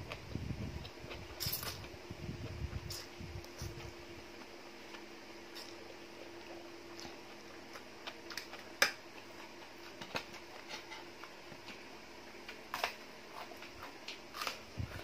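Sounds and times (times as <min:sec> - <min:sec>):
faint steady hum: 0:00.0 - 0:15.0
lettuce crunching while chewing: 0:00.8 - 0:02.0, 0:02.8 - 0:15.0.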